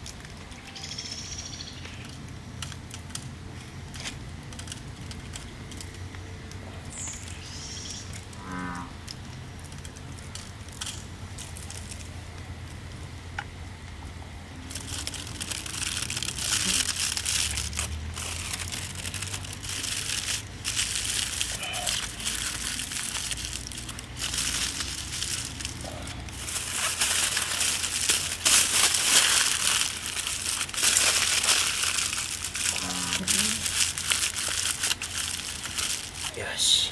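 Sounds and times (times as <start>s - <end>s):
packaging crinkling: 2.0s - 6.1s, 9.0s - 36.6s.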